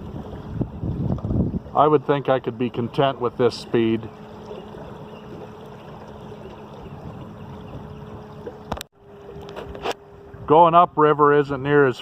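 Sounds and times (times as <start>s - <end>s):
water rushing along hull: 0.0s - 12.0s.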